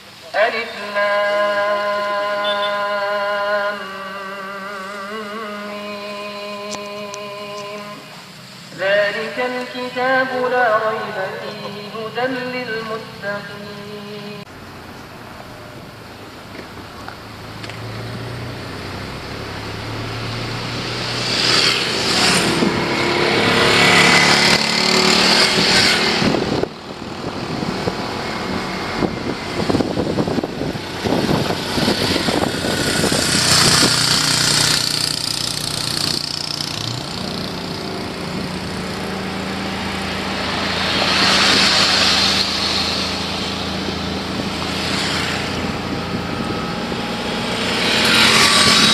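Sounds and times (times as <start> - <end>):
road noise: 0.0 - 48.9
vehicle engines passing: 1.4 - 48.9.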